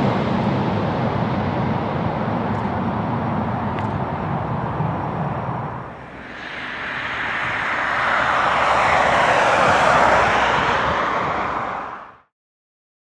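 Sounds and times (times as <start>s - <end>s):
jet engines roaring: 0.0s - 12.3s.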